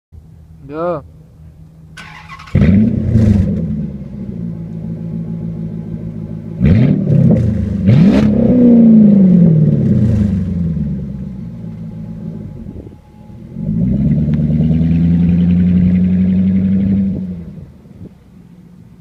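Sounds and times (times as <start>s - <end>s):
car engine revving and idling: 0.2s - 19.0s.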